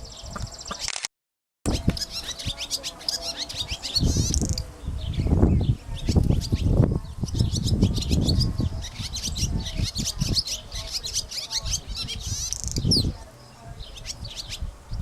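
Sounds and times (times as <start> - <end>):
bird chirping: 0.0 - 0.9, 1.7 - 15.0.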